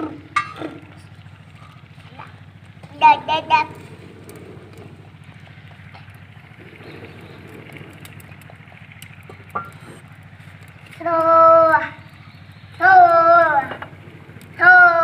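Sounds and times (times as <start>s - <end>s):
low engine-like drone: 0.0s - 15.0s
wood fire crackling: 0.0s - 15.0s.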